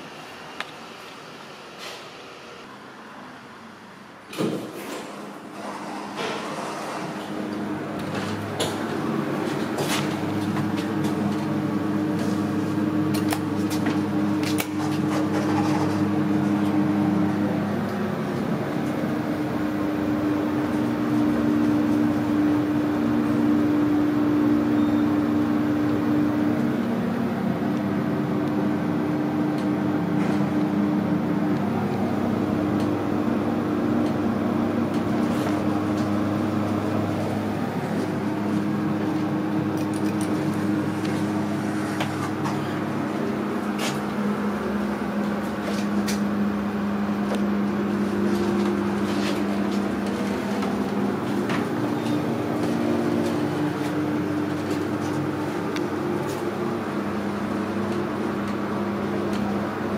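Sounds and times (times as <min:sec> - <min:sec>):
hydraulic lift humming: 0:05.0 - 0:59.9.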